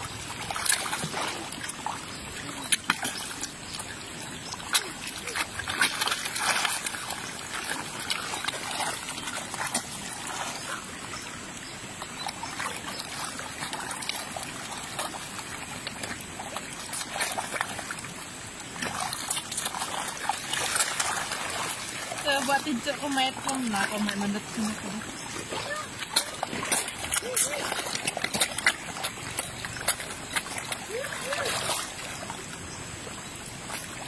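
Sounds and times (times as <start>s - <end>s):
fish thrashing and splashing: 0.0s - 34.0s.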